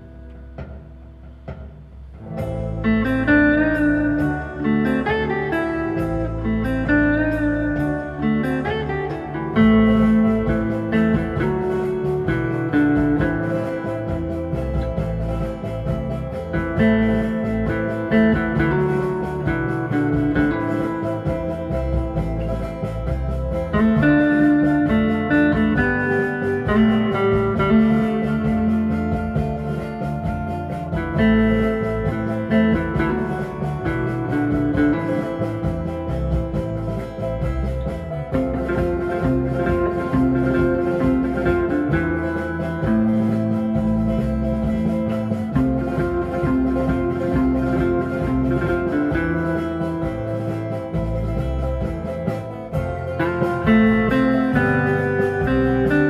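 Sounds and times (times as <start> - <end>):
plucked guitar playing: 0.0 - 56.0.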